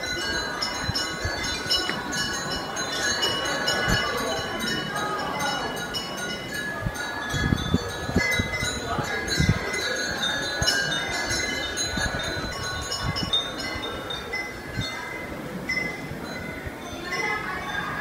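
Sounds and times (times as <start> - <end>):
small temple bells ringing: 0.0 - 18.0.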